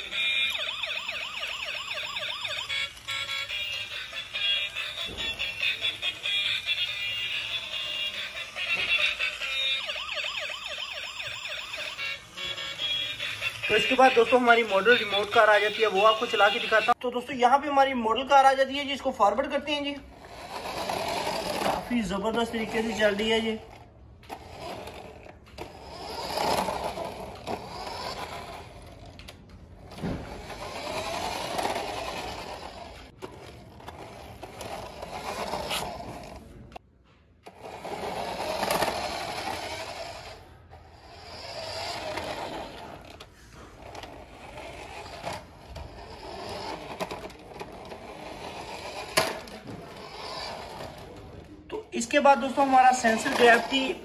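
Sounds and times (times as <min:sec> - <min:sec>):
toy car electric motor whirring: 0:00.0 - 0:17.0, 0:20.1 - 0:36.8, 0:37.4 - 0:54.0.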